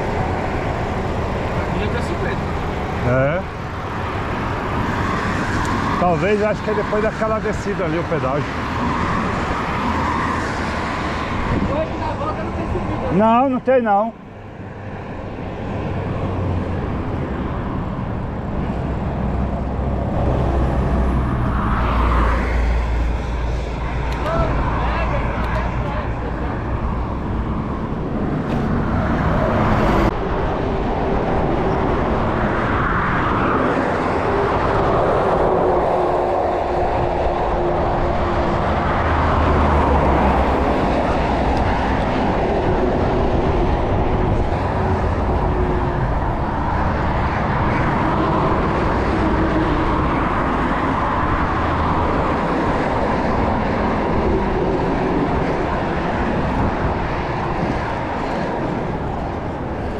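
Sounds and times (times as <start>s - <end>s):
highway traffic passing: 0.0s - 59.9s
wind rush on microphone: 0.0s - 59.9s.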